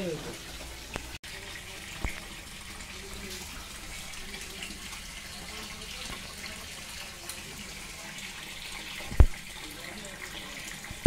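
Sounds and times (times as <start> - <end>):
water running into a tank: 0.0 - 11.0.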